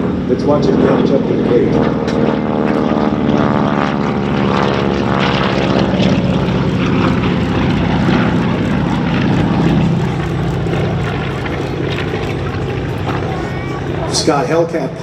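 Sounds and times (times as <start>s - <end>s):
propeller planes flying past: 0.0s - 15.0s.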